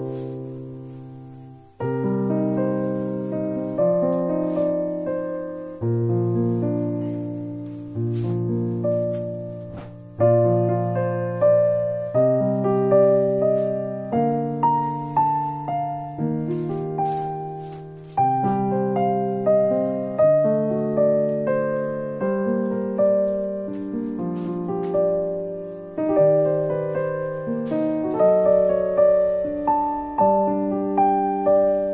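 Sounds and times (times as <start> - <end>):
gentle solo piano piece: 0.0 - 31.9.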